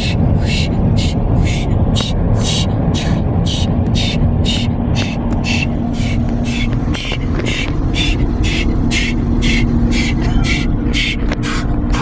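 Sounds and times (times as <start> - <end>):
car wash machinery rumbling: 0.0 - 12.0
pulsing hissing sweep: 0.0 - 12.0.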